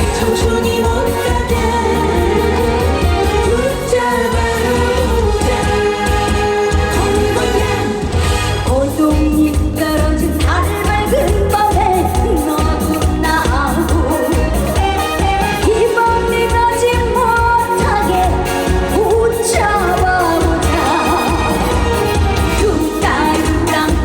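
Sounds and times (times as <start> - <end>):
band playing upbeat song: 0.0 - 24.0
woman singing: 0.0 - 24.0.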